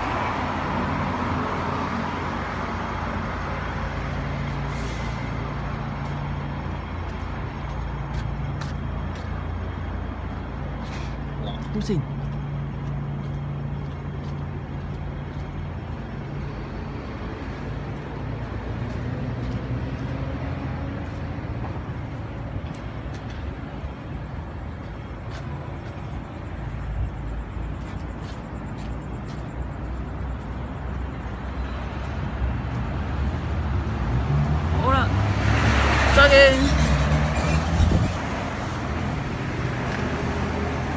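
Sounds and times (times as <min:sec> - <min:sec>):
engines and road traffic rumble: 0:00.0 - 0:40.9.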